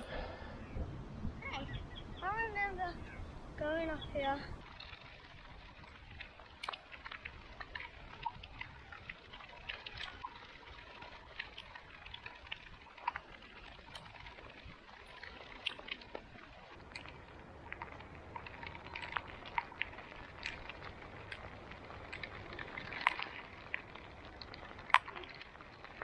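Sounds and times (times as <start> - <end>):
bicycle tyres hissing on wet road: 4.6 - 26.0.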